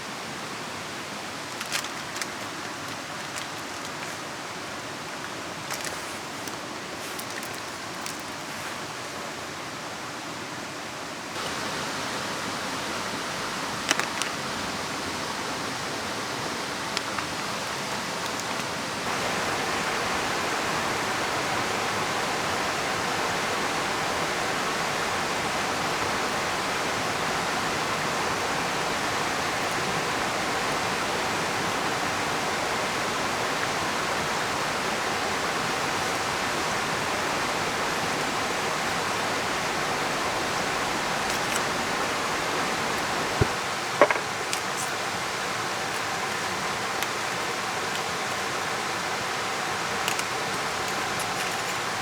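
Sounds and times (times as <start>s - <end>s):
rain: 0.0s - 52.0s
river rushing: 0.0s - 52.0s.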